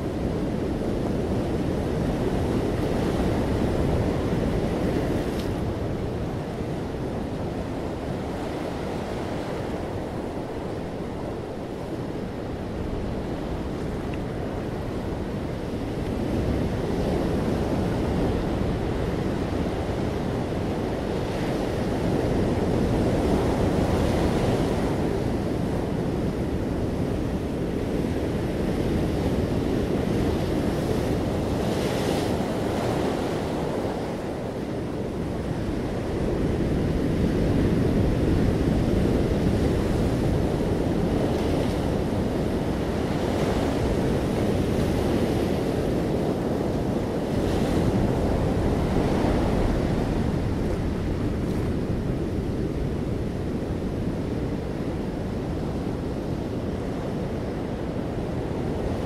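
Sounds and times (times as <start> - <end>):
ocean surf breaking on rocks: 0.0 - 59.0.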